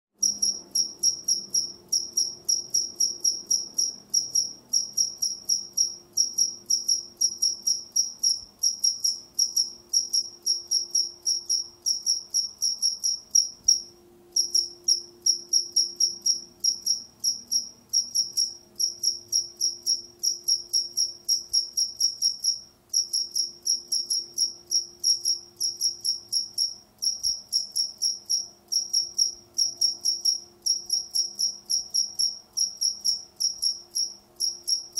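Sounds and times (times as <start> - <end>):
cricket chirping: 0.2 - 34.9.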